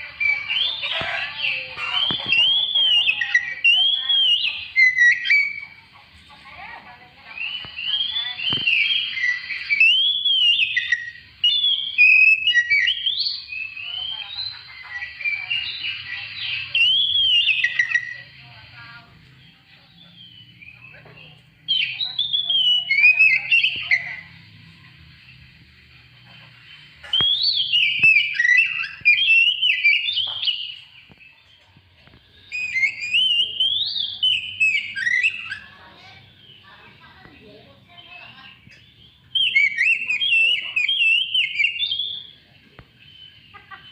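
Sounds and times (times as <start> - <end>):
bird singing whistled phrases: 0.0 - 5.8, 7.3 - 18.6, 19.4 - 24.6, 27.0 - 31.4, 32.0 - 37.0, 37.9 - 43.9.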